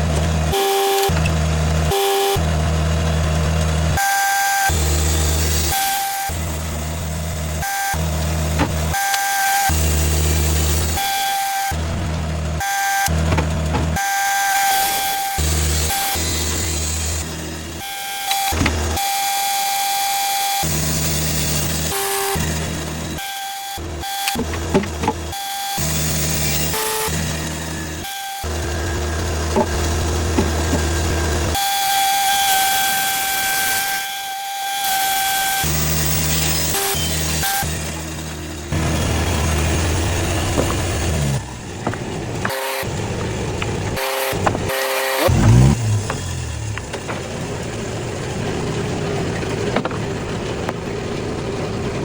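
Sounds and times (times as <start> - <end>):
band sawmill whine: 0.0 - 34.0, 35.1 - 52.0.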